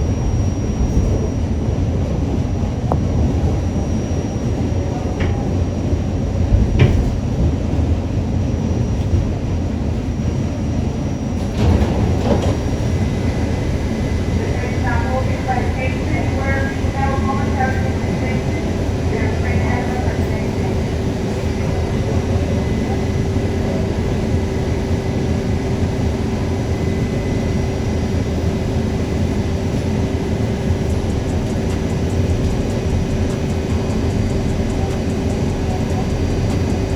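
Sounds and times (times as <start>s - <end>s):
constant hum: 0.0s - 36.9s
subway car rattling: 0.0s - 36.9s
subway car rumbling: 0.0s - 36.9s.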